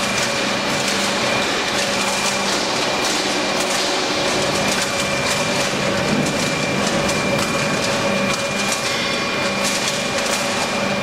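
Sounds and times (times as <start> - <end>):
baler machine hum and whine: 0.0 - 11.0.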